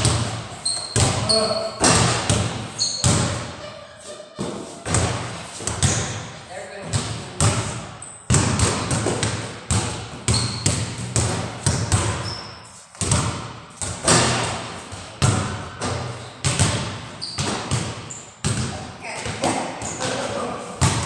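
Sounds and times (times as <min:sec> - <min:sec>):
basketballs bouncing on hard floor: 0:00.0 - 0:03.7, 0:04.3 - 0:21.0.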